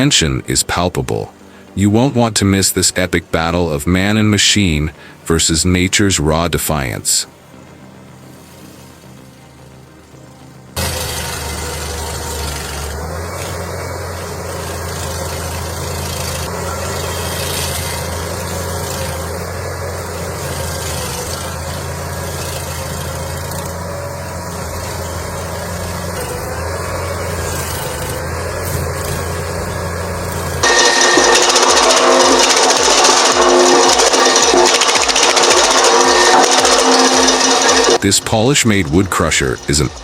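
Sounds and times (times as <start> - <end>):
heavy machine engine droning: 0.0 - 40.0.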